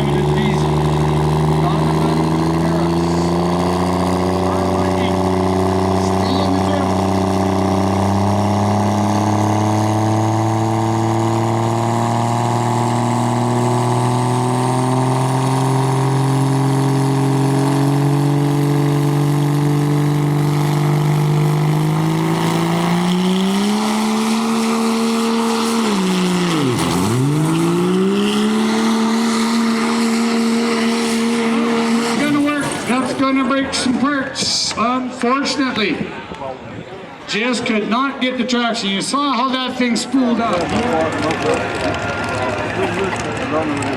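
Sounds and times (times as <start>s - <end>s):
diesel engine at full throttle: 0.0s - 36.2s, 38.5s - 43.9s.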